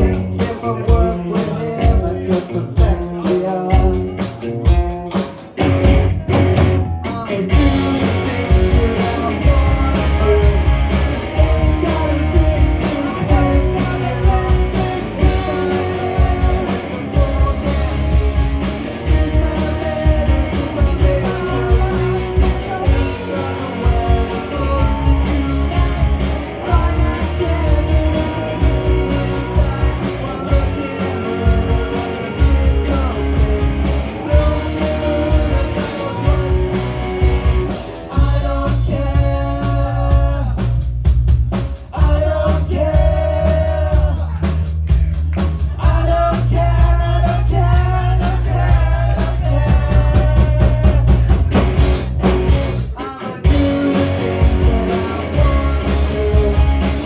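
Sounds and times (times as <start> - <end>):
rock music with guitar and drums: 0.0 - 57.0.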